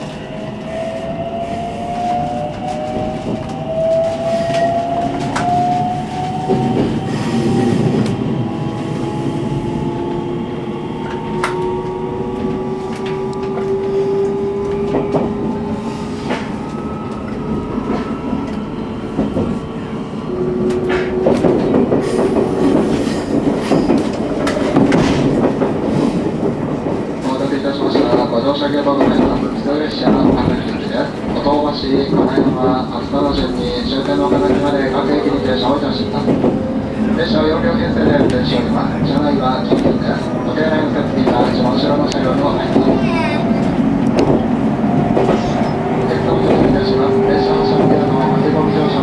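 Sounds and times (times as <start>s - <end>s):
train running rumble: 0.0s - 49.0s.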